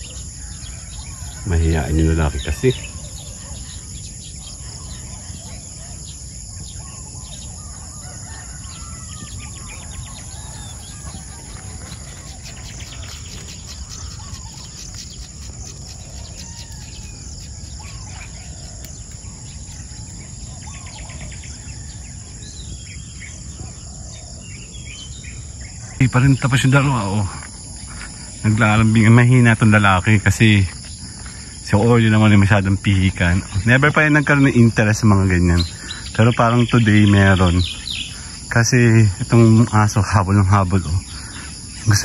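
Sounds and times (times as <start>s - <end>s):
birds calling: 0.0s - 42.0s
high-pitched insect drone: 0.0s - 42.0s.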